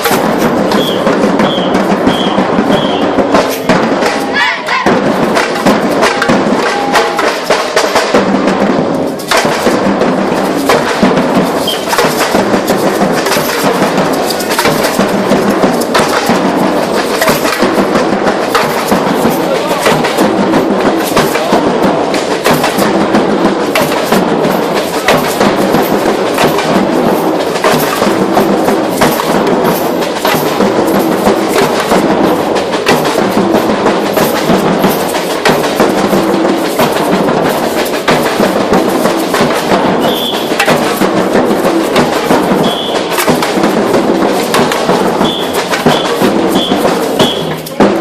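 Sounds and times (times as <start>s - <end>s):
percussion band drumming: 0.0s - 48.0s.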